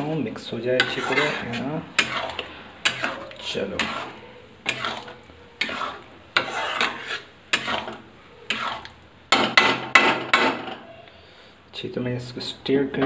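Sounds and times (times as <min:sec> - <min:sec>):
spatula scraping metal pan: 0:00.0 - 0:10.8.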